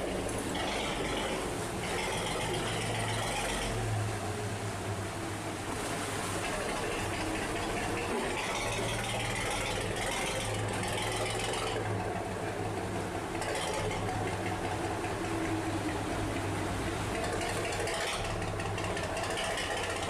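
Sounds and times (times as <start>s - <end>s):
fast-flowing water rushing: 0.0s - 20.0s
ship engine humming: 0.0s - 20.0s.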